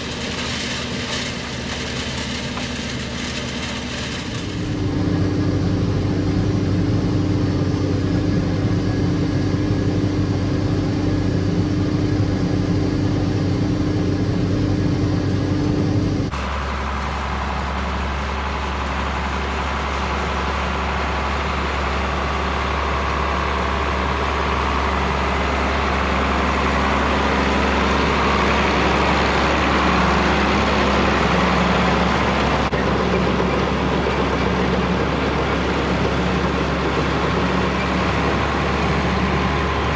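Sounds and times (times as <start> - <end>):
low engine hum: 0.0 - 39.9
tractor engine running: 0.0 - 39.9.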